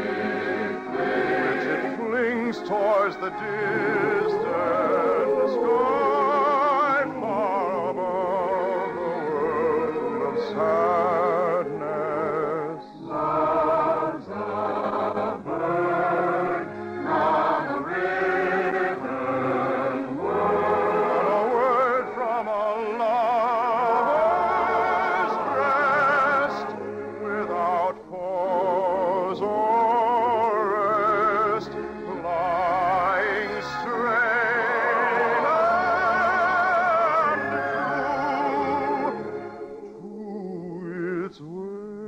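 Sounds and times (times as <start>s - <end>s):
orchestral accompaniment: 0.0s - 39.9s
operatic singing with vibrato: 0.0s - 42.0s.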